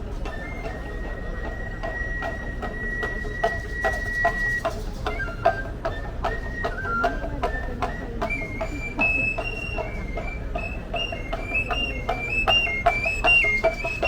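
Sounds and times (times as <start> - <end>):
hand drum beat: 0.0 - 14.0
high reed flute tune: 0.0 - 14.0.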